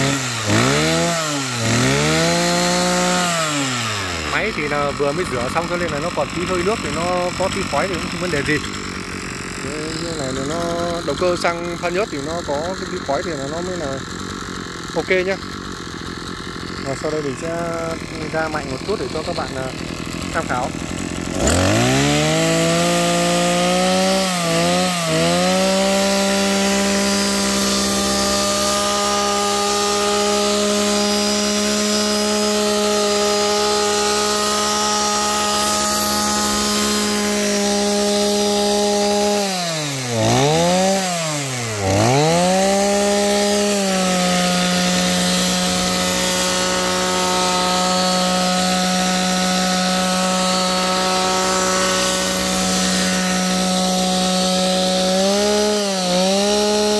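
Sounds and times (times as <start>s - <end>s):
brush cutter engine buzzing: 0.0s - 56.9s.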